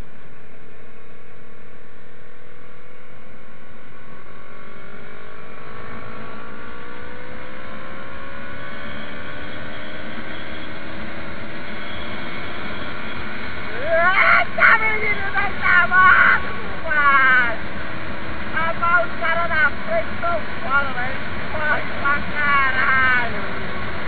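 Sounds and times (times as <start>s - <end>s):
motorcycle engine at speed: 0.0s - 24.0s.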